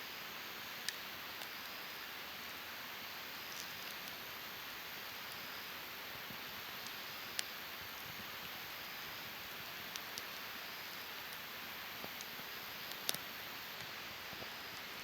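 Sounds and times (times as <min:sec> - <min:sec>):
campfire hissing: 0:00.0 - 0:15.0
burning wood crackles: 0:00.4 - 0:15.0.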